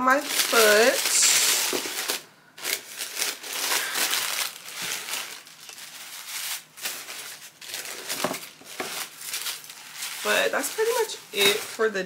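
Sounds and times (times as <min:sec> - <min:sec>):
packaging rustling and crinkling: 0:00.1 - 0:12.0.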